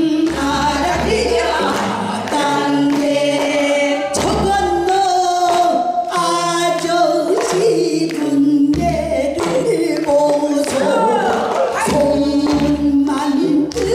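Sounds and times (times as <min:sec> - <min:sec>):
women singing together: 0:00.0 - 0:13.9.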